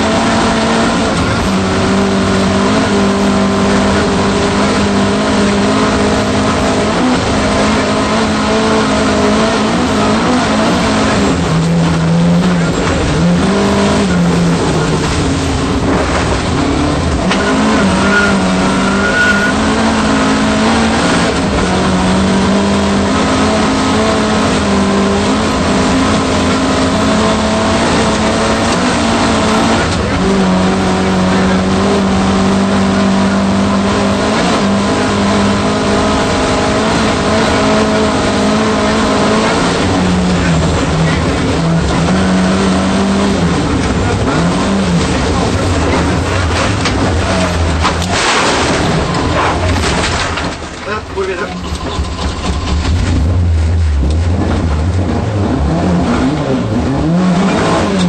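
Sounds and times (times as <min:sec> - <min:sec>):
car engine revving: 0:00.0 - 0:58.0
tyre and road noise: 0:00.0 - 0:58.0.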